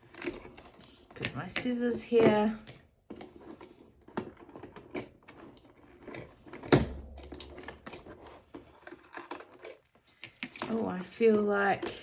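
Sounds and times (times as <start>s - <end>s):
fingers picking at cardboard: 0.0s - 10.8s.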